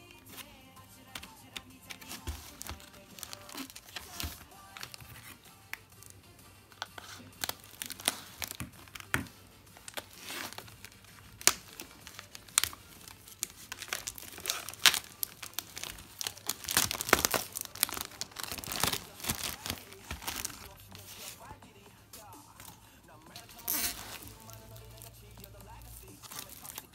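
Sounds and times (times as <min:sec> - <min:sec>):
plastic shrink wrap crinkling: 0:00.0 - 0:26.9.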